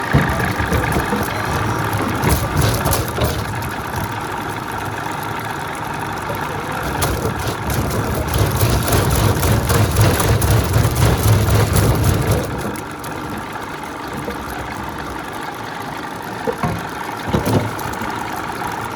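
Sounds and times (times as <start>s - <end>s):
veneer peeling machine running: 0.0s - 18.9s.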